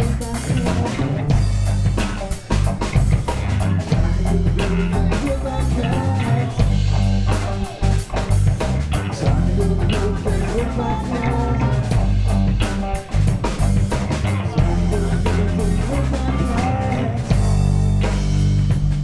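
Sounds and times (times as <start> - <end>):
bass guitar: 0.0 - 19.0
drum kit: 0.0 - 19.0
electric guitar lead: 0.0 - 19.0.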